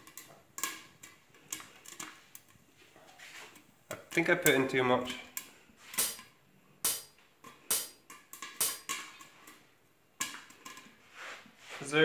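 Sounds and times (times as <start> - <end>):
popcorn popping: 0.0 - 2.7, 3.6 - 11.0.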